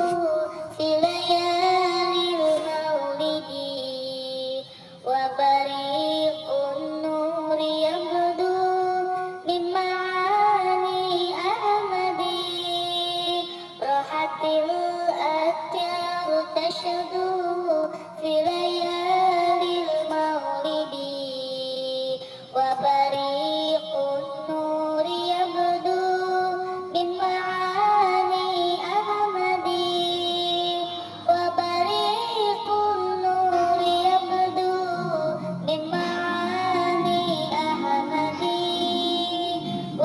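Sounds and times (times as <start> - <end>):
devotional song in high voice: 0.0 - 40.0.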